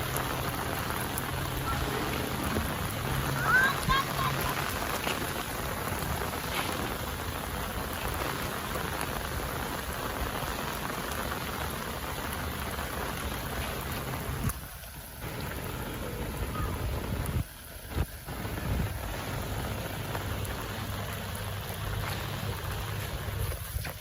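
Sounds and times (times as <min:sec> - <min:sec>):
rain pattering on surfaces: 0:00.0 - 0:24.0.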